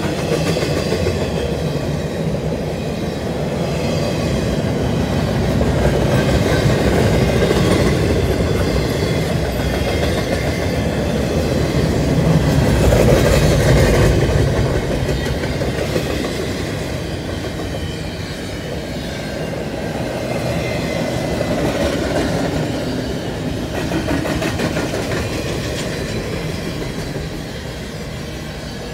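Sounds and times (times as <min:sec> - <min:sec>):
freight train wheels rumbling on rails: 0:00.0 - 0:28.9.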